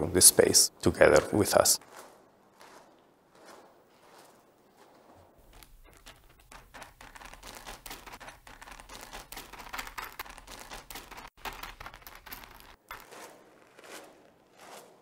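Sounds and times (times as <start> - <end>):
footsteps crunching on gravel: 0.0 - 15.0.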